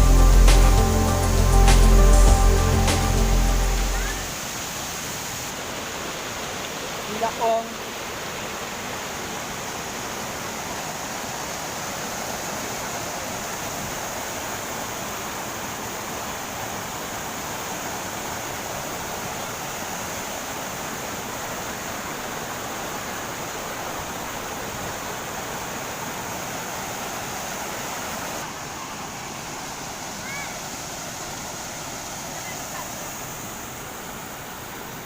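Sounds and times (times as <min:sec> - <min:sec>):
waterfall roaring: 0:00.0 - 0:35.0.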